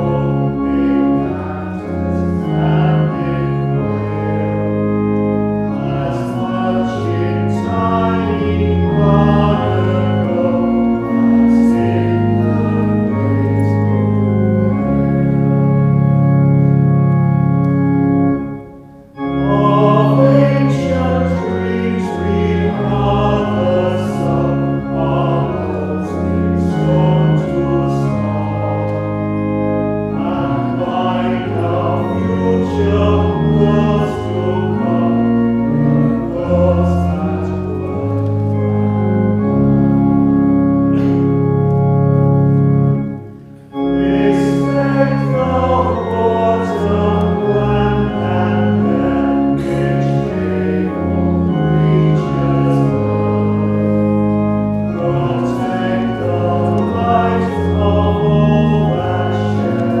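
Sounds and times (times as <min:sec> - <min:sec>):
congregation singing a hymn: 0:00.0 - 1:00.0
pipe organ: 0:00.0 - 1:00.0.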